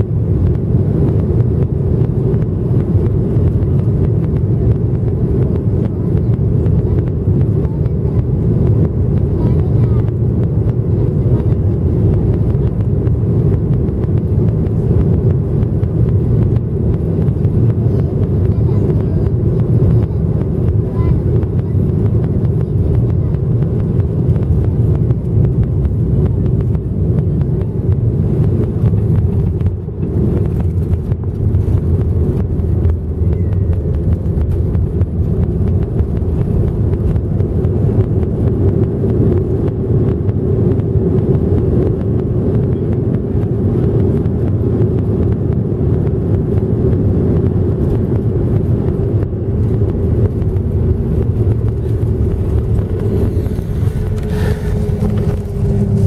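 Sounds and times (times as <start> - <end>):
jet engines rumbling: 0.0 - 56.0
steady hum: 0.0 - 56.0
wheels running on runway: 0.0 - 56.0.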